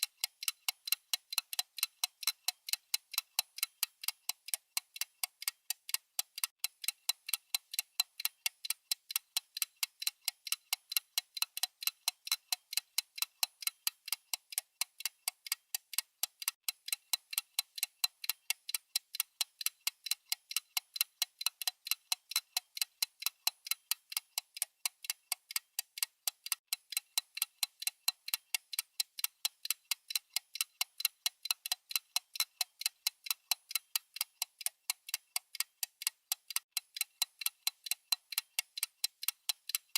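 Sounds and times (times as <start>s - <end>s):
digital countdown timer ticking: 0.0s - 39.9s.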